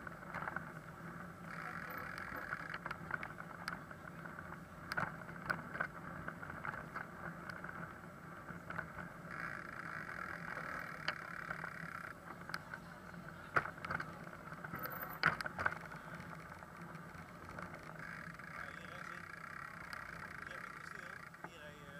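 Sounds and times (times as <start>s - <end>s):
bicycle rattles and knocks: 0.0s - 21.9s
bicycle rolling over brick paving: 0.0s - 21.9s.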